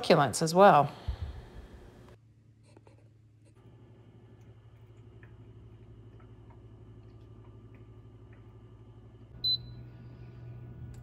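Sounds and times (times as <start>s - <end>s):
humidifier humming: 0.0s - 11.0s.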